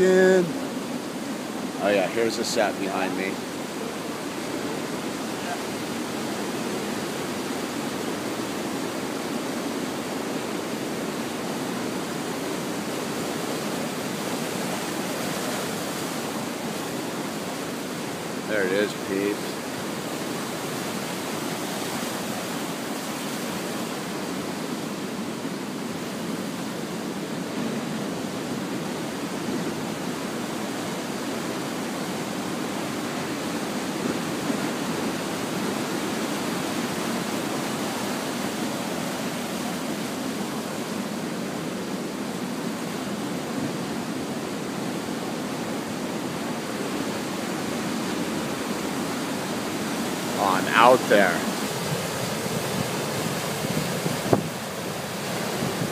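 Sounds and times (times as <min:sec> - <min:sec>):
waves breaking offshore: 0:00.0 - 0:55.9
whitewater washing over rocks: 0:00.0 - 0:55.9.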